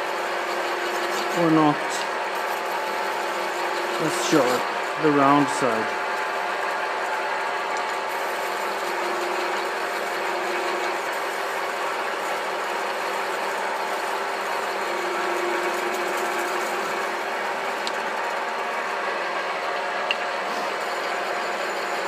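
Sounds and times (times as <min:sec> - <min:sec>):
lathe motor hum: 0:00.0 - 0:22.0.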